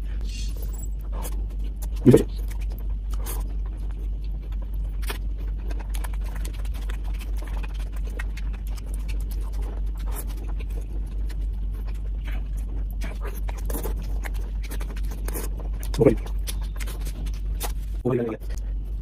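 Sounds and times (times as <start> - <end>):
low hum: 0.0 - 19.0
chewing and lip-smacking: 1.0 - 19.0.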